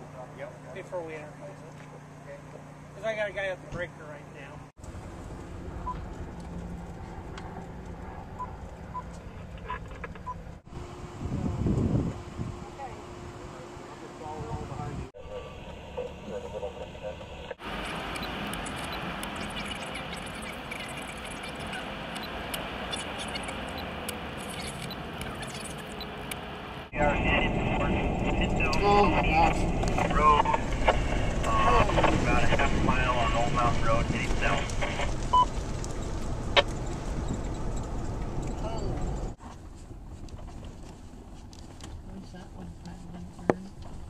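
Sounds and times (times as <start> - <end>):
vehicle road rumble and rattling: 0.0 - 44.0.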